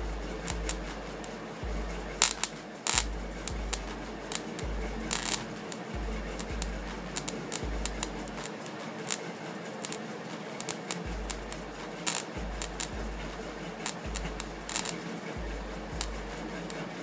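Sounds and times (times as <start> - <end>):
arc welder crackling: 0.0 - 17.0
low steady hum: 0.0 - 17.0
welding rod scratching: 0.0 - 17.0.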